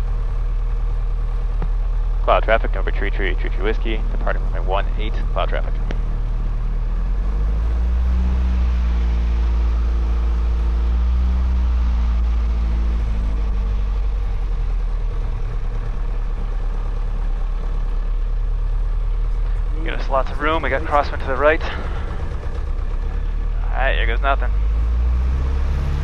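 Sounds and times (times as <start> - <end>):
light aircraft piston engine: 0.0 - 26.0.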